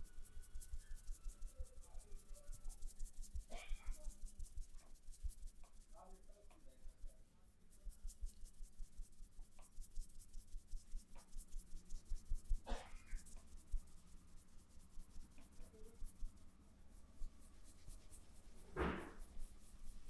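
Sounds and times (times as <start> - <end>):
hands rubbing and patting scalp: 0.0 - 20.0.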